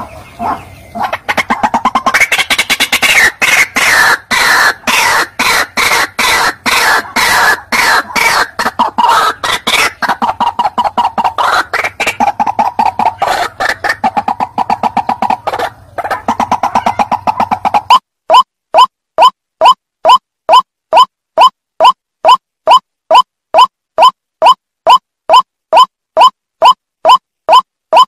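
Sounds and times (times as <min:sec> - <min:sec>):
waterhen croaking calls: 0:00.0 - 0:28.0.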